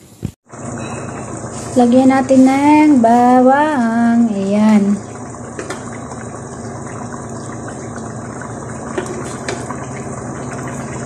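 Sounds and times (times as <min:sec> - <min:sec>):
broth boiling in a pan: 0:00.4 - 0:11.0.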